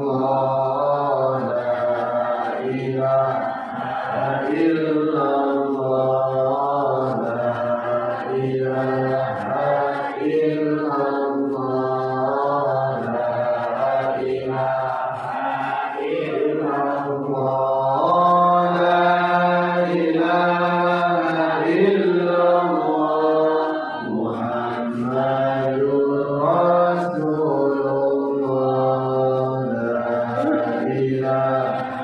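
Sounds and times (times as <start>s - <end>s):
man chanting: 0.0s - 15.2s, 16.0s - 32.0s.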